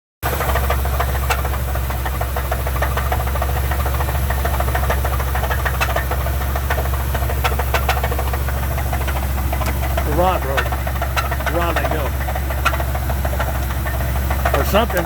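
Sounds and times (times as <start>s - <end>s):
truck engine knocking: 0.2s - 15.0s.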